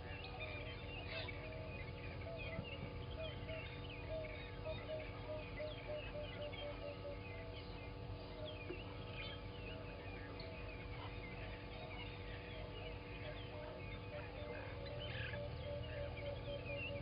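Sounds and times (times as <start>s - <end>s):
birds chirping and twittering: 0.0s - 17.0s
faint steady hum: 0.0s - 17.0s.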